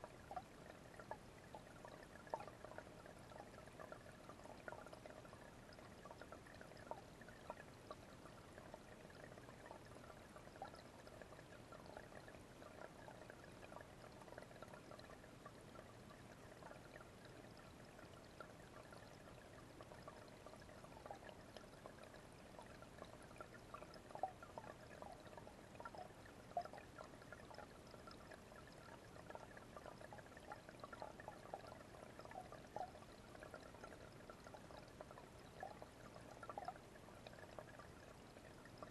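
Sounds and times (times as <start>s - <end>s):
small waterfall trickling into pond: 0.0s - 38.9s.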